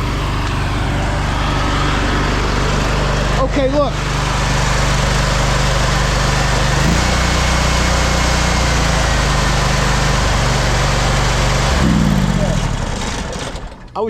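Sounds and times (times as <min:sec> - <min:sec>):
pressure washer engine drone: 0:00.0 - 0:14.0.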